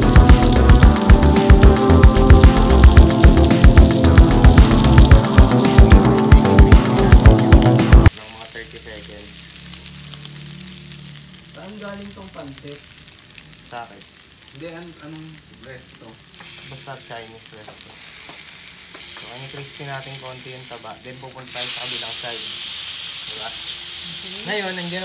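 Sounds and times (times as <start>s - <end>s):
steak fat sizzling: 0.0s - 25.0s.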